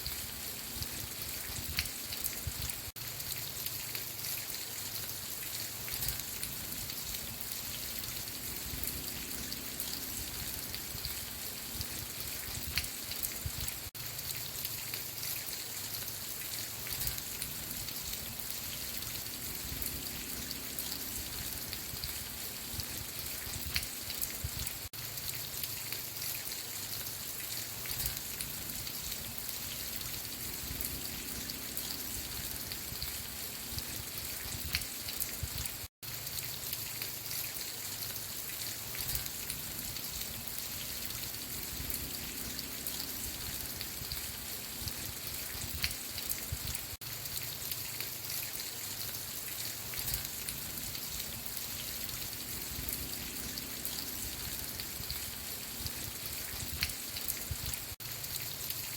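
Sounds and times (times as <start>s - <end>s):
raindrops ticking: 0.0s - 58.9s
steady rain hiss: 0.0s - 58.9s.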